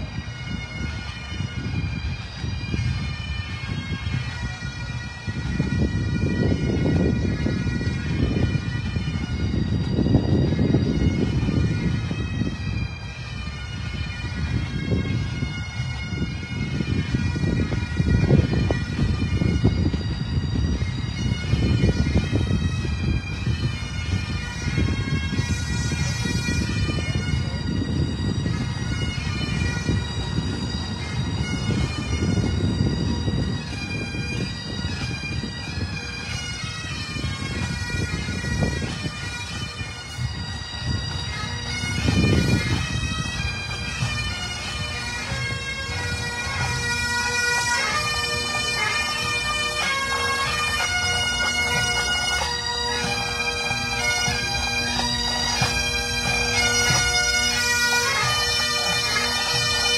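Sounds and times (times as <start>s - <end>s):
bagpipes playing: 0.0s - 59.9s.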